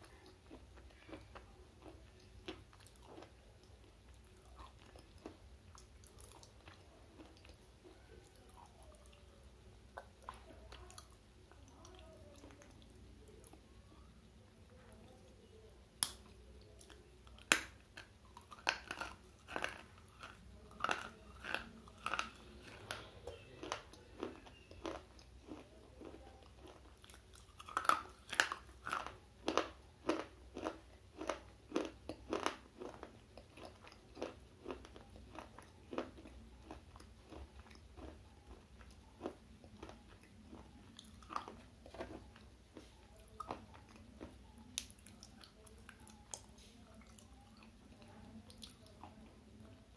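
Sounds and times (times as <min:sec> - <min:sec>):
chewing brittle crunches: 0:00.0 - 0:09.2, 0:14.7 - 0:49.9.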